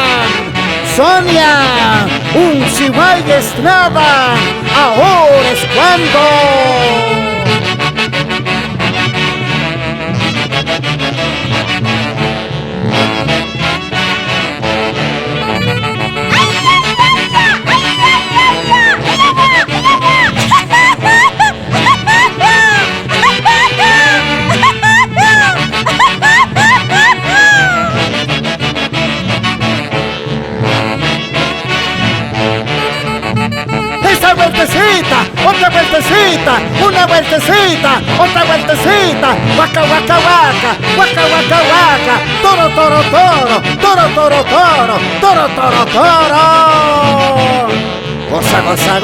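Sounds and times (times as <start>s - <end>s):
wind band playing dance tune: 0.0s - 49.0s.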